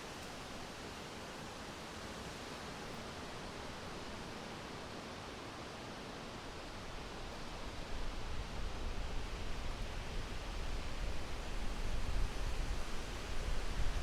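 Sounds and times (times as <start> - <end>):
wind rustling leaves: 0.0 - 14.0.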